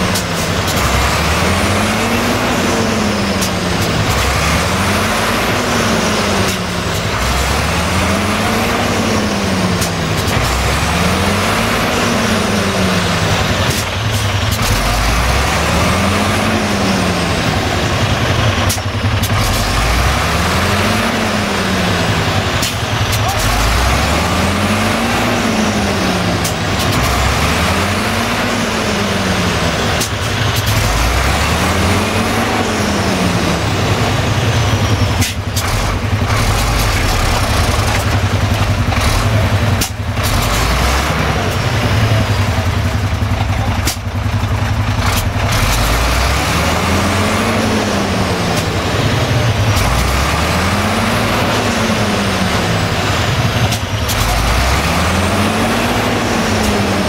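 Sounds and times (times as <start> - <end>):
diesel truck engine labouring: 0.0 - 57.0.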